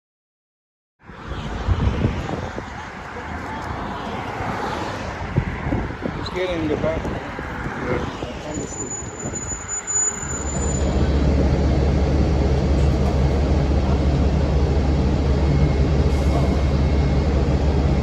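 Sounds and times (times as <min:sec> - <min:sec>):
bus diesel engine drone: 0:01.0 - 0:18.0.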